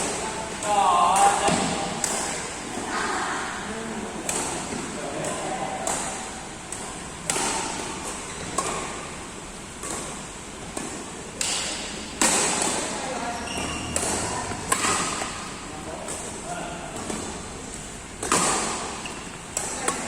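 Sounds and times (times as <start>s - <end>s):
rackets hitting shuttlecock: 0.1s - 2.4s, 4.2s - 9.0s, 9.8s - 20.0s.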